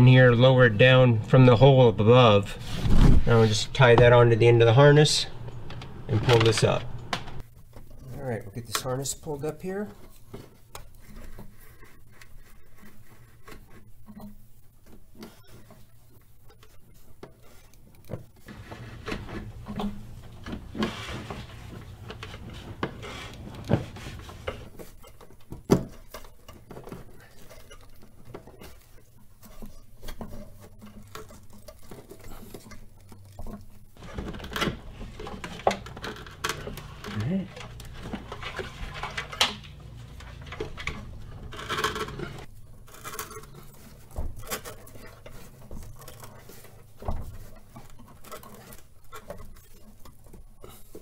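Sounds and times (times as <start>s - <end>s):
wiring harness rustling and rubbing: 2.4s - 51.0s.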